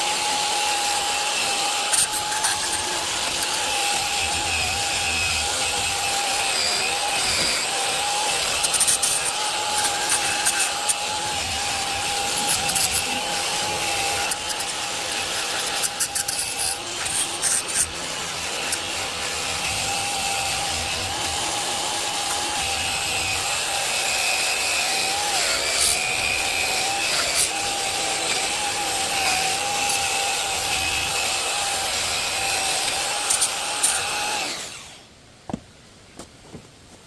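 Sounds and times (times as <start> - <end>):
power tool whining and grinding: 0.0 - 35.1.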